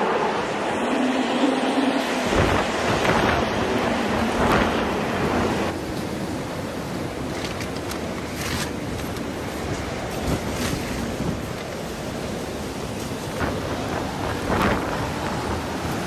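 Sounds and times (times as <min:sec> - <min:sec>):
gusty snowstorm wind: 0:00.0 - 0:16.0.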